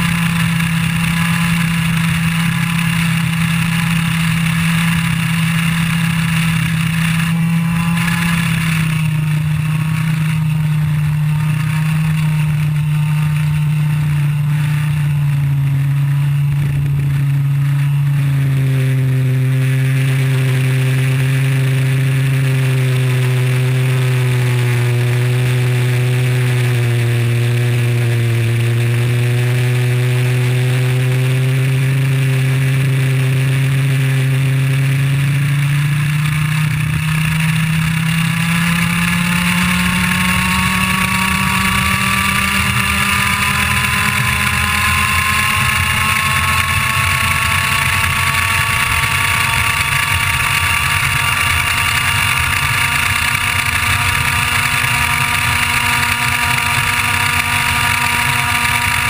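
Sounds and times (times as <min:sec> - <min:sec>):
kart engine at high revs: 0:00.0 - 0:59.0.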